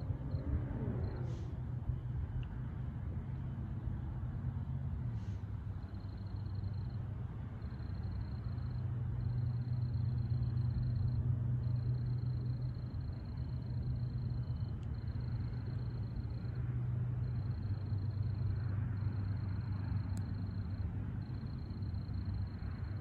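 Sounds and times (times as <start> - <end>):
distant diesel locomotives rumbling: 0.0 - 23.0.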